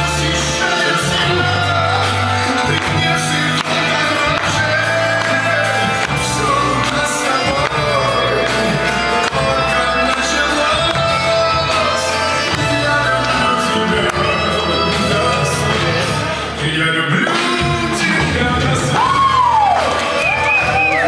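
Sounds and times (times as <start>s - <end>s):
person singing slow song: 0.0s - 19.8s
held bass notes: 0.0s - 21.0s.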